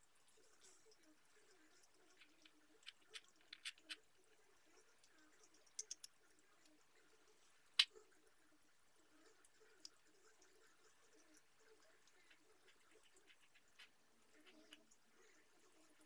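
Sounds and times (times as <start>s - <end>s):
cat chewing: 0.4s - 6.7s, 9.2s - 16.0s.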